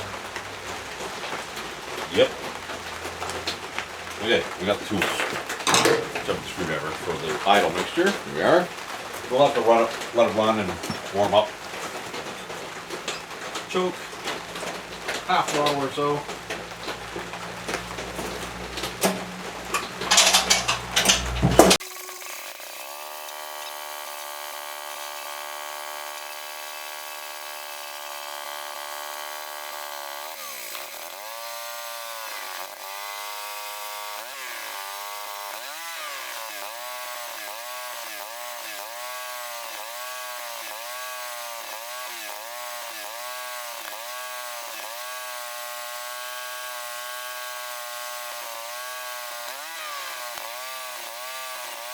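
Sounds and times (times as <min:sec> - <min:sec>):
chipper shredder engine running: 0:00.0 - 0:51.9.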